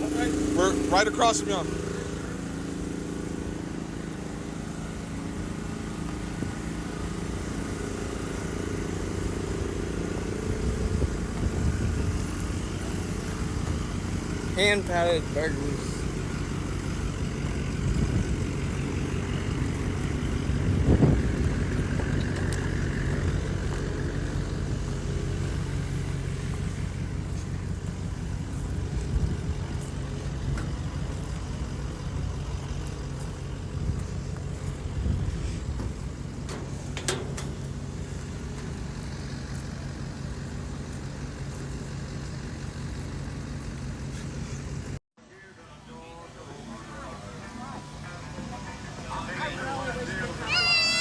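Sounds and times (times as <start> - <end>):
engine running: 0.0 - 51.0.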